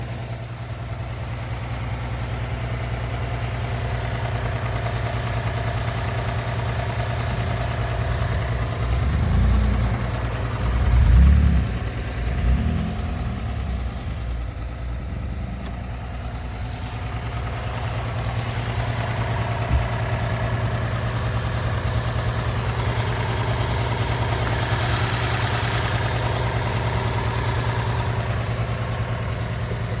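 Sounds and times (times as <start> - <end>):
car engine idling with knock: 0.0 - 30.0.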